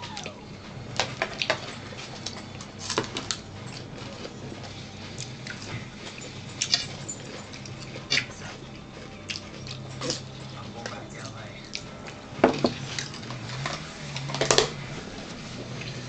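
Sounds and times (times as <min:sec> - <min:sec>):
chewing: 0:00.0 - 0:16.0
steady low hum: 0:00.0 - 0:16.0.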